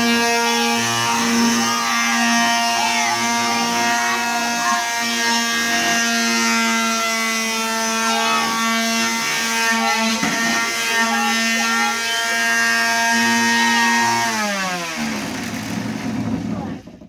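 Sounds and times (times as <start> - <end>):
electric sander on wood: 0.0 - 17.0.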